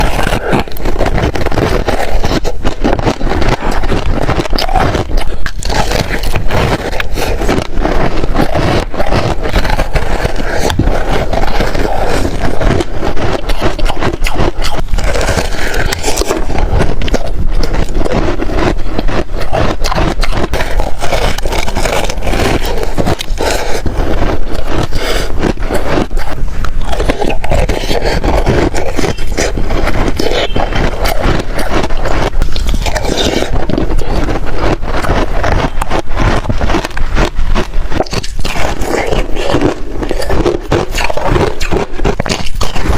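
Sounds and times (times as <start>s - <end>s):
freezer frost scraping: 0.0s - 42.9s.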